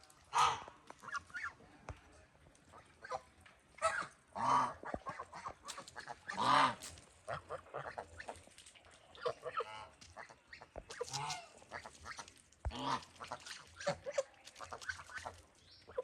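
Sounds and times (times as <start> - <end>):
geese honking: 0.2 - 1.6, 2.7 - 8.5, 9.1 - 16.0.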